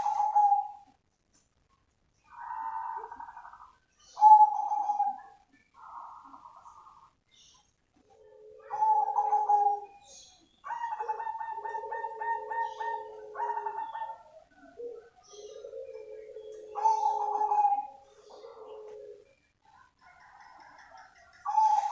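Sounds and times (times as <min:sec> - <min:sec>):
dove cooing: 0:00.0 - 0:01.0, 0:02.2 - 0:07.1, 0:08.0 - 0:21.9.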